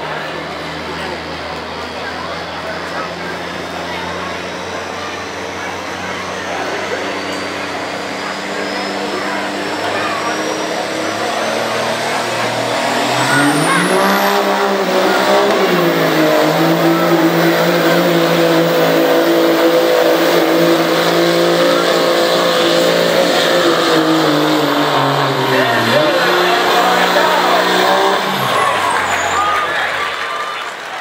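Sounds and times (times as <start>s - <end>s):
diesel pickup engine at high revs: 0.0s - 31.0s.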